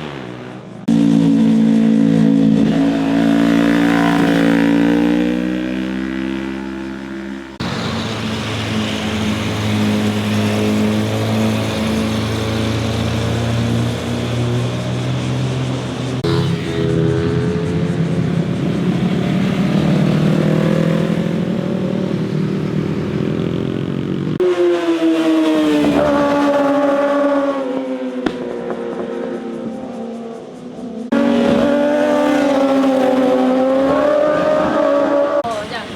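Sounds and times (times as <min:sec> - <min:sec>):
motorcycles revving past: 0:00.0 - 0:35.6.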